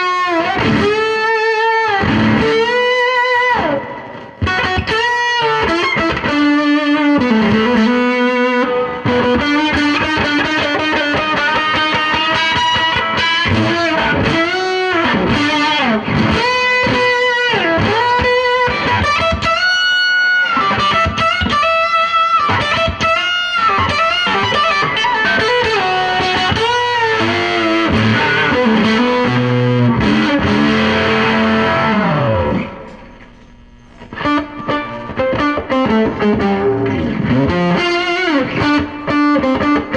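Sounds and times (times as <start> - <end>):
distorted electric guitar lead: 0.0 - 39.9.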